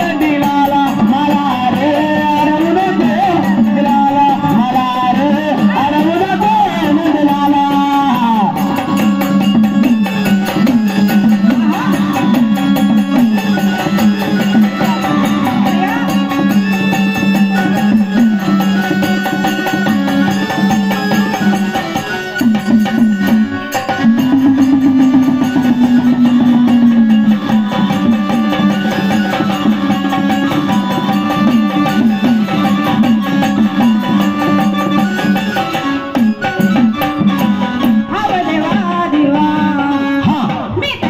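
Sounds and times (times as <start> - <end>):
bending melody line: 0.0 - 40.0
drums and small percussion: 0.0 - 41.0.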